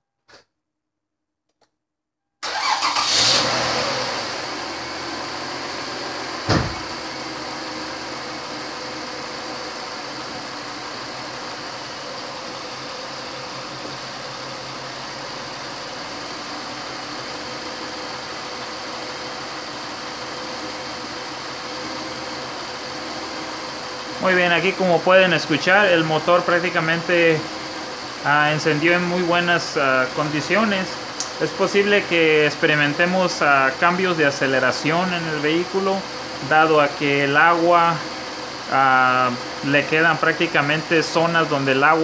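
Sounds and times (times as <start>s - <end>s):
car engine starting and idling: 2.4s - 42.0s.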